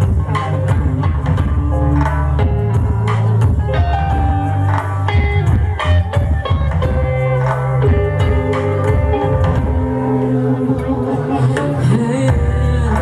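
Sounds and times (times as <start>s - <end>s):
live rock band playing: 0.0s - 13.0s
steady drum beat: 0.0s - 13.0s
sustained electric guitar notes: 0.0s - 13.0s.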